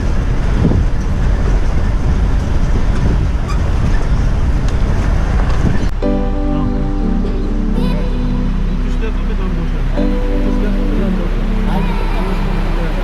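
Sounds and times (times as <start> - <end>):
loud low rumbling: 0.0 - 13.0.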